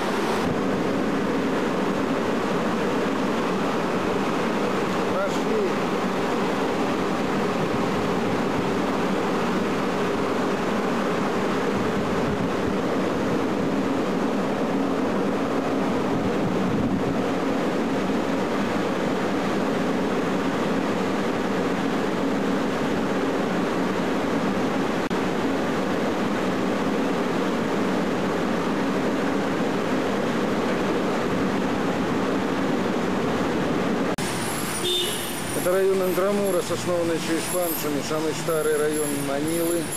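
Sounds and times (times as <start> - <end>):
ship engine hum: 0.0 - 39.9
water rushing: 0.0 - 39.9.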